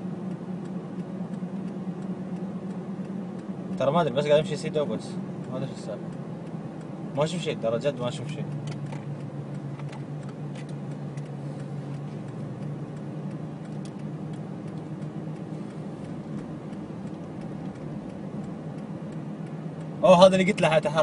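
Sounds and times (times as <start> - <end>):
car engine hum: 0.0 - 21.0
road noise inside car: 0.0 - 21.0
faint ticks: 0.1 - 21.0.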